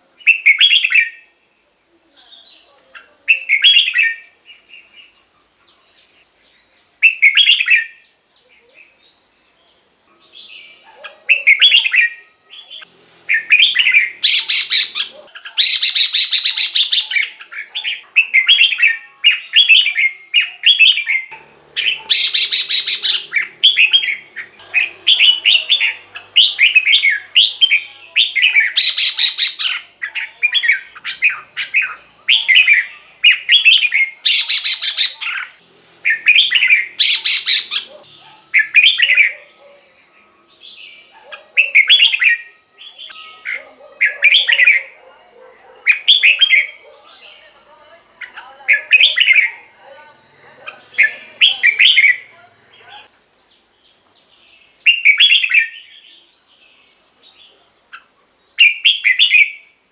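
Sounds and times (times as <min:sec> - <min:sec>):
bird singing whistled notes: 0:00.2 - 0:01.4, 0:03.3 - 0:05.2, 0:06.4 - 0:08.2, 0:10.3 - 0:45.0, 0:45.9 - 0:47.6, 0:48.2 - 0:57.0, 0:57.9 - 0:59.8.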